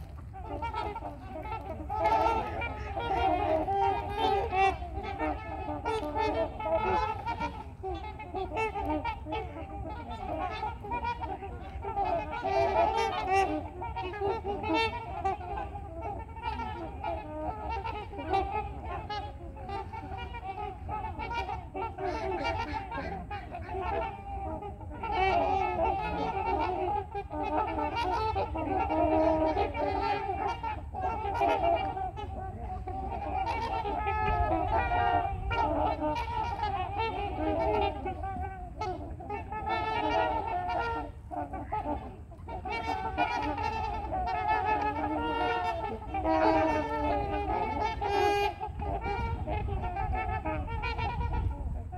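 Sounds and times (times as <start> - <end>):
swans honking: 0.0 - 51.9.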